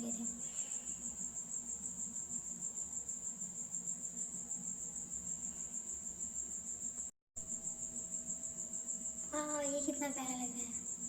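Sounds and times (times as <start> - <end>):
crickets chirring: 0.0 - 11.0
faint low hum: 0.0 - 11.0.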